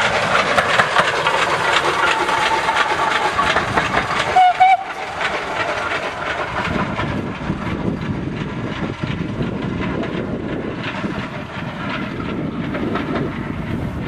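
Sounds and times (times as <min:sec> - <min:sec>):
steam train rumbling past: 0:00.0 - 0:14.0.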